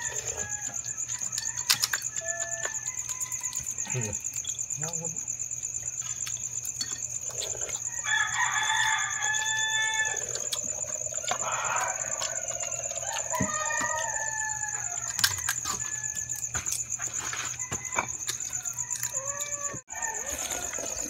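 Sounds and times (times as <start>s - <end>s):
rooster crowing: 0.0s - 4.1s, 7.7s - 21.0s
high insect trill: 0.0s - 21.0s.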